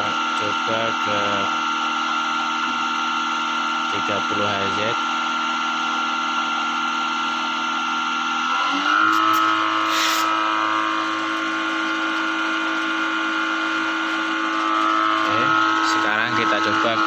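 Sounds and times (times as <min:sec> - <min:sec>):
blower whining: 0:00.0 - 0:17.0.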